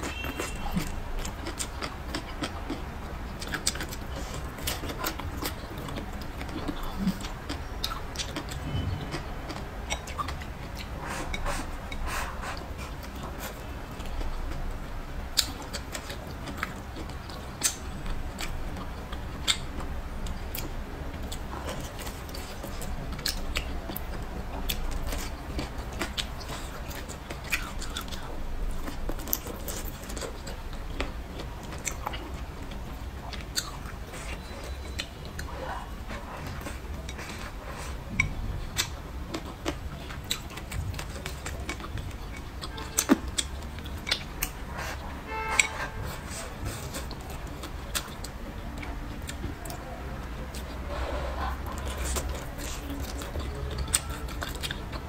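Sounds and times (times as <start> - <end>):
chewing and biting food: 0.0 - 55.0
low steady hum: 0.0 - 55.0.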